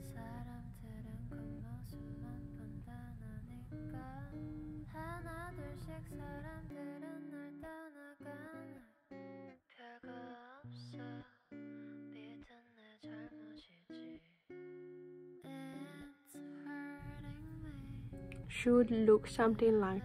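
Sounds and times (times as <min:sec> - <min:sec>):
soft guitar song: 0:00.0 - 0:20.0.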